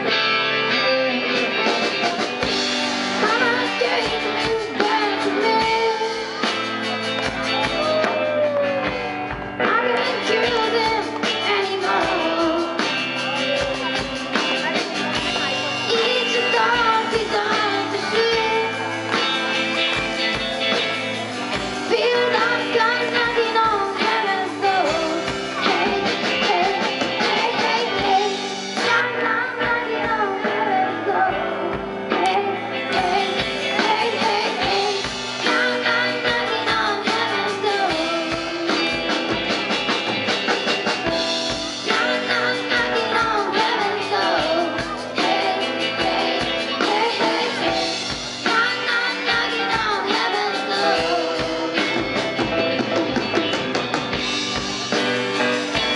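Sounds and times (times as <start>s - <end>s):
person singing: 0.0s - 2.5s, 3.1s - 20.0s, 20.6s - 39.6s, 41.8s - 53.5s
drum kit: 0.0s - 55.9s
electric guitar: 0.0s - 55.9s.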